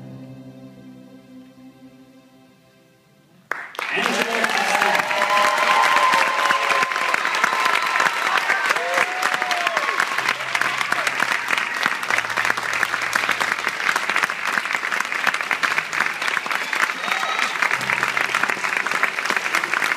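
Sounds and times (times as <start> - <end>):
audience applauding: 3.5 - 19.9.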